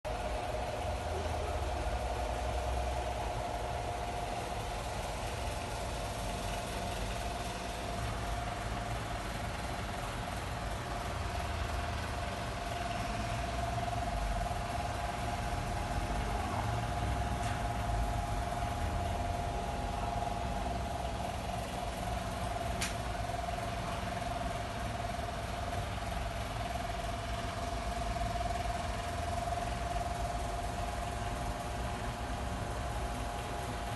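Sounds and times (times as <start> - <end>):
steady mechanical hum: 0.1 - 33.9.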